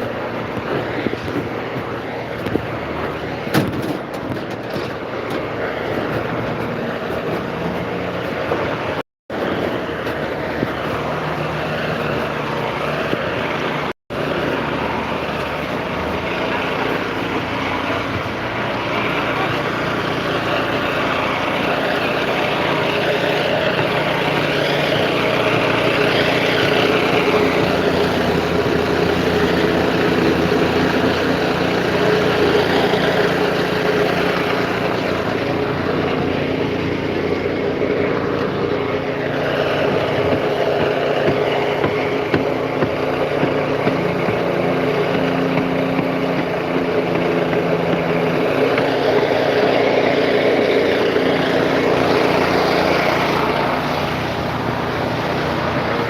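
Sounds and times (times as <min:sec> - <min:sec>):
machinery engine running steadily: 0:00.0 - 0:56.0.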